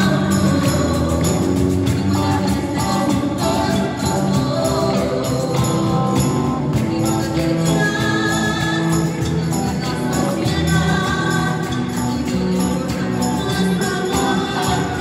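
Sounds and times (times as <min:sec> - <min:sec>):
acoustic and electric guitar: 0:00.0 - 0:15.0
cajon drum: 0:00.0 - 0:15.0
tambourine and shakers jingling: 0:00.0 - 0:15.0
women singing: 0:00.0 - 0:15.0.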